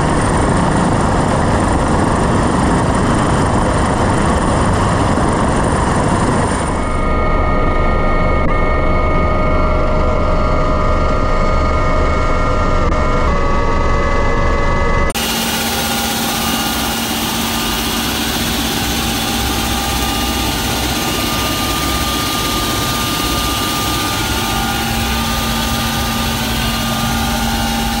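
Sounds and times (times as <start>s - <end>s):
helicopter engines and rotor: 0.0s - 28.0s.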